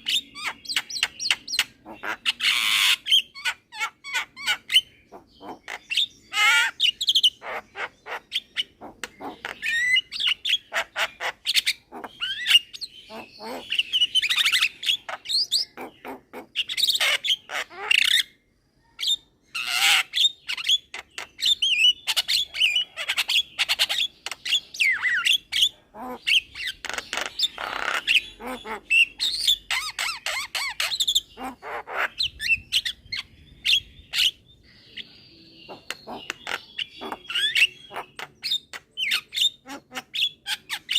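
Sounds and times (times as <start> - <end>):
myna chirping and whistling: 0.0 - 40.9.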